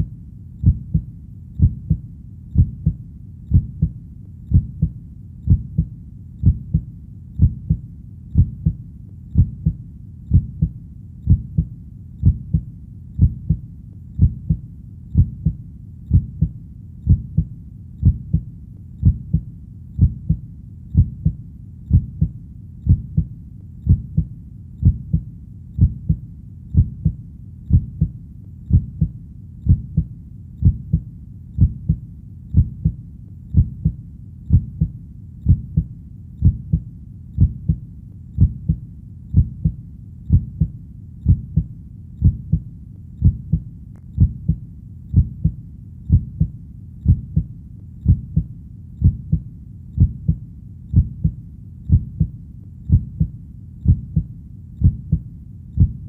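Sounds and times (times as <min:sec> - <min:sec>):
heartbeat thumps: 0:00.0 - 0:37.8, 0:38.4 - 0:56.0
faint low background hum: 0:00.0 - 0:56.0.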